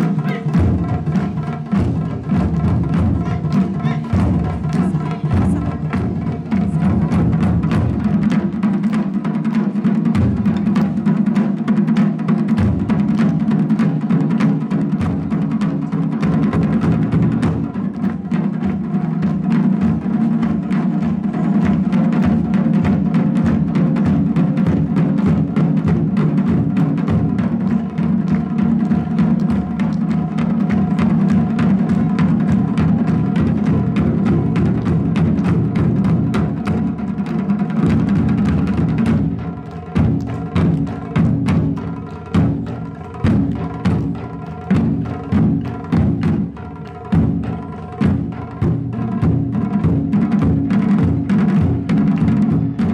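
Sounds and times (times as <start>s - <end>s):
ensemble drumming: 0.0s - 52.9s.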